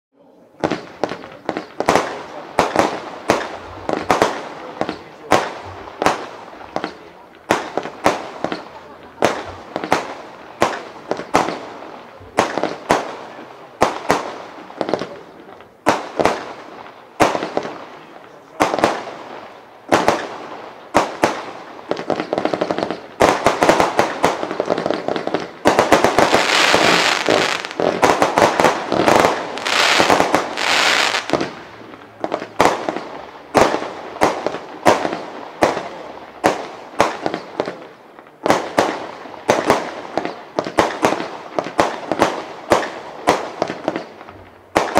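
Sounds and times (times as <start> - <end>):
fireworks crackling barrage: 0.2 - 44.9
fireworks shots: 0.5 - 44.9.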